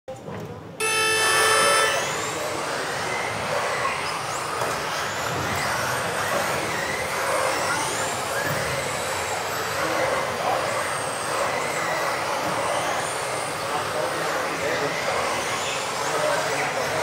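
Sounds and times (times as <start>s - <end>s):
rc car motors whining: 0.8s - 17.0s.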